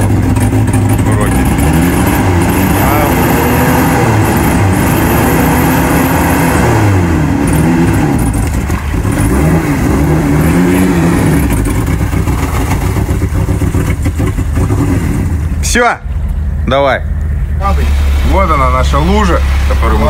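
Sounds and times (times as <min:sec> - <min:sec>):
engine revving hard: 0:00.0 - 0:15.7, 0:17.6 - 0:20.0.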